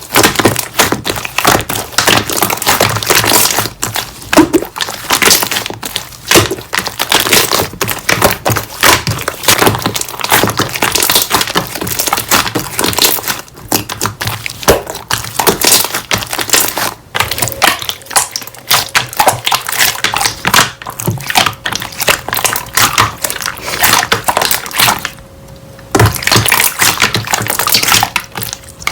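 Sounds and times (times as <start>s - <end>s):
slime crackling when squeezed: 0.0s - 25.2s, 25.9s - 28.9s.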